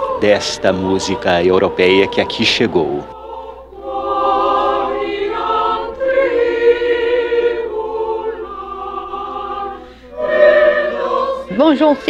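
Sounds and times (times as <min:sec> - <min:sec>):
choir singing sacred music: 0:00.0 - 0:12.0.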